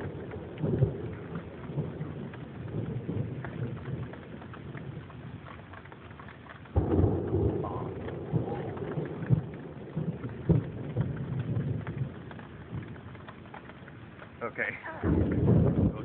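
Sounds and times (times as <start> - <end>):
sharp ticks of raindrops: 0.0 - 16.0
steady rain: 0.0 - 16.0
thunder rumbling: 0.0 - 16.0.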